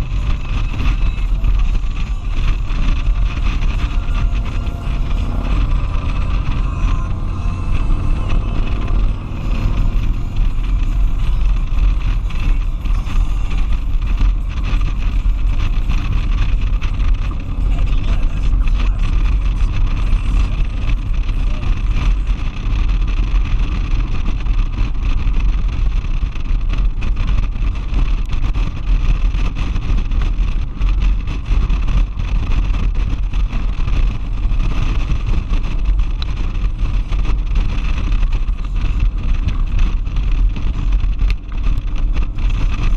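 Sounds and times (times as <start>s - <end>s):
motorcycle engine drone: 0.0s - 42.9s
wind buffeting microphone: 0.0s - 42.9s.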